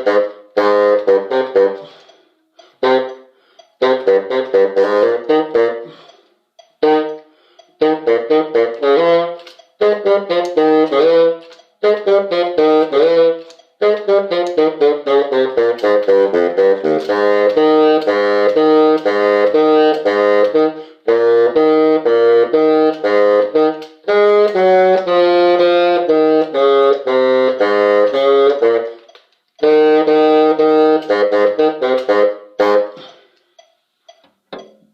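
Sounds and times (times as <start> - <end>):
wind instrument melody: 0.0 - 33.7.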